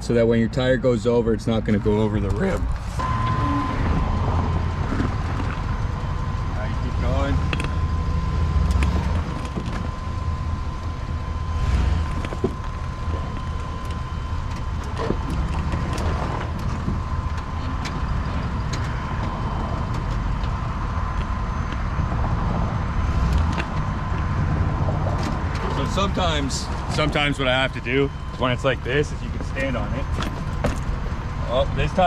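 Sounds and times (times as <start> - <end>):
faint steady whine: 0.0 - 32.0
truck engine rumbling: 0.0 - 32.0.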